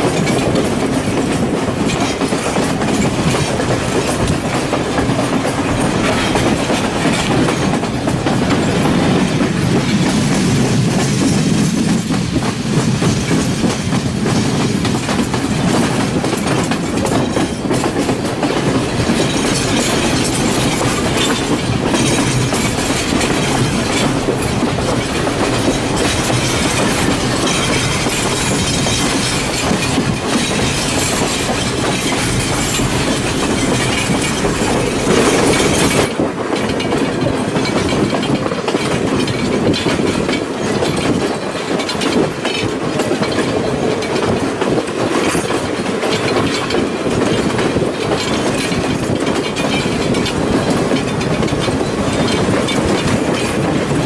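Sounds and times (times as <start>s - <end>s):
train rumble: 0.0s - 54.0s
wheels clacking over rail joints: 0.0s - 54.0s.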